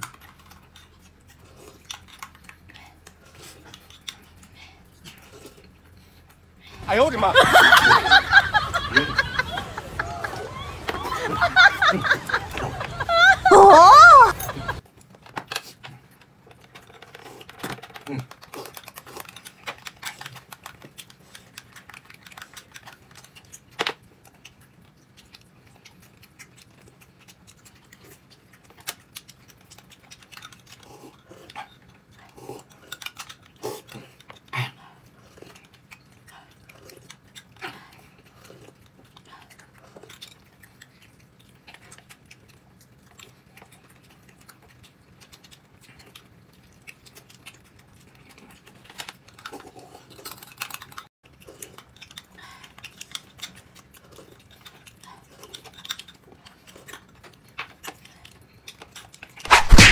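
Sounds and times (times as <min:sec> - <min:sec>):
chewing: 0:00.0 - 0:06.9, 0:14.3 - 0:59.9.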